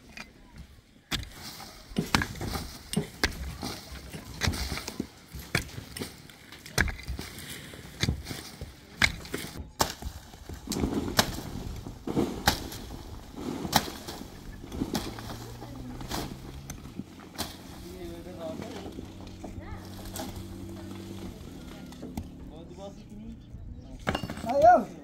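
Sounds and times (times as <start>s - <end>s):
dirt crumbling and sliding: 0.0s - 23.0s
digging tool striking earth: 1.1s - 22.4s.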